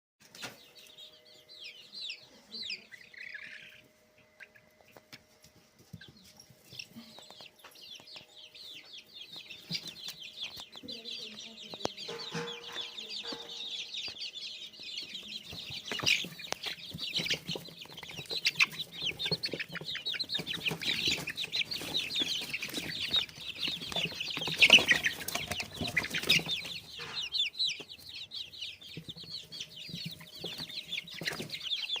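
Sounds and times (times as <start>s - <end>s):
chickens calling: 0.2s - 32.0s.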